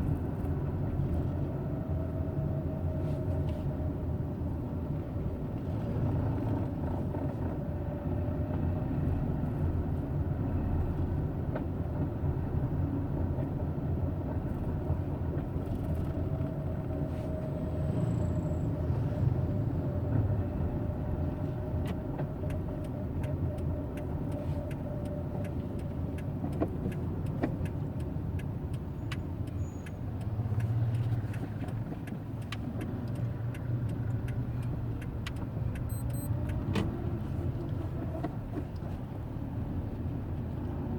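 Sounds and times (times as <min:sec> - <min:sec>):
car engine low rumble: 0:00.0 - 0:40.9.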